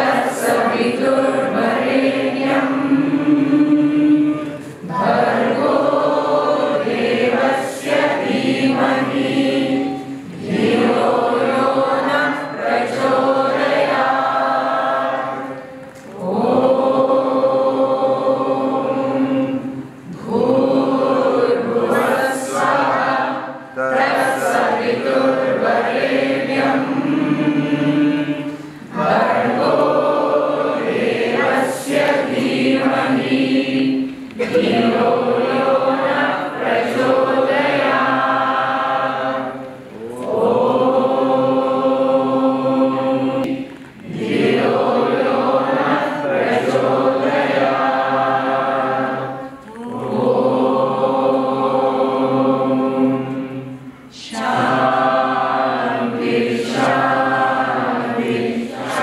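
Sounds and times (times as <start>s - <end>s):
group singing a chant: 0.0s - 59.0s.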